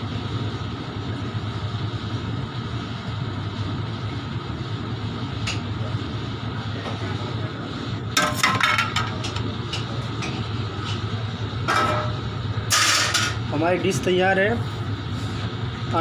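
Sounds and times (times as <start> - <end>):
low kitchen hum: 0.0 - 16.0.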